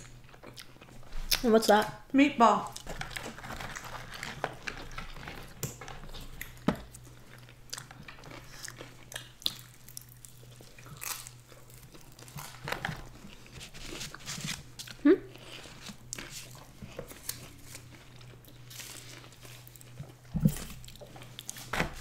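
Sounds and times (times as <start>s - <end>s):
biting and chewing crunchy food: 0.0s - 1.5s, 2.7s - 22.0s.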